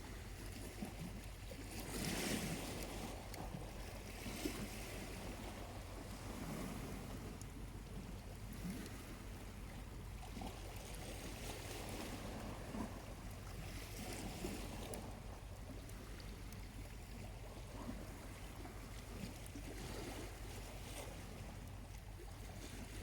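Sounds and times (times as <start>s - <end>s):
small waves lapping on shore: 0.0s - 23.0s.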